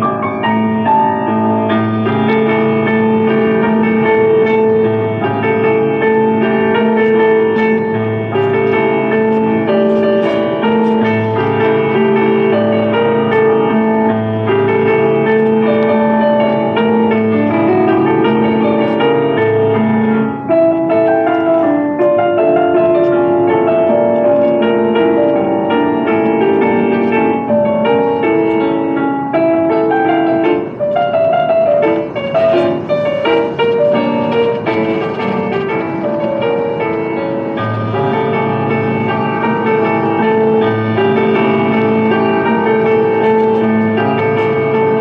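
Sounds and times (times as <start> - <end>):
piano background music: 0.0 - 45.0.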